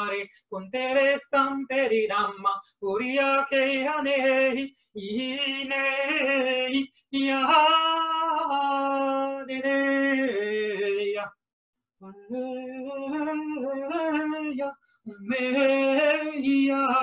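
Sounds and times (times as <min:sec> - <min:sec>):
woman singing wordlessly: 0:00.0 - 0:11.3, 0:12.0 - 0:17.0.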